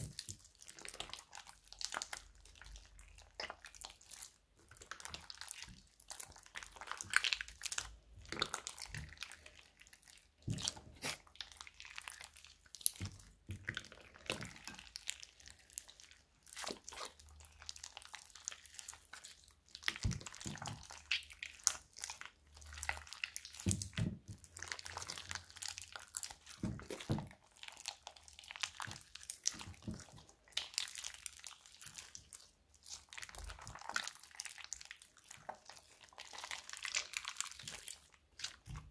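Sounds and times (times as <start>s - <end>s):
slime squelching and crackling: 0.0s - 38.9s.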